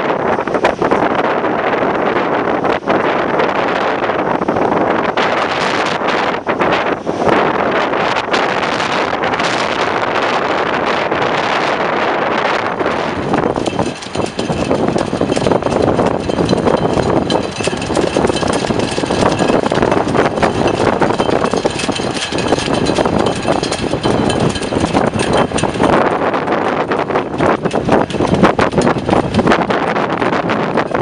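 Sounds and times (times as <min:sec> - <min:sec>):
strong wind gusting on microphone: 0:00.0 - 0:31.0.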